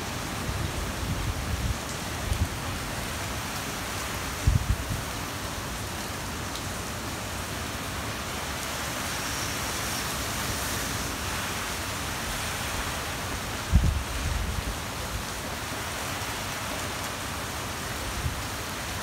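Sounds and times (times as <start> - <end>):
rain and wind rushing: 0.0 - 19.0.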